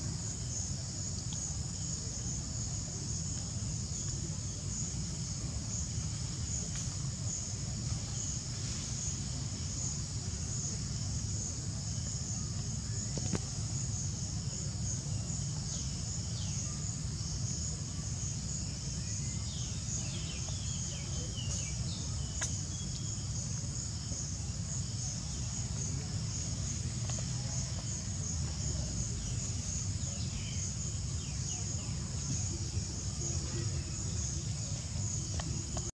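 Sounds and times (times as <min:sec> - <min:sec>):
insects droning: 0:00.0 - 0:35.9.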